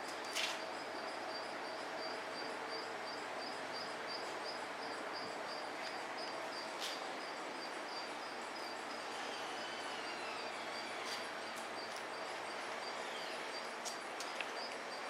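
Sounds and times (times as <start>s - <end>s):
room noise hiss: 0.0s - 15.0s.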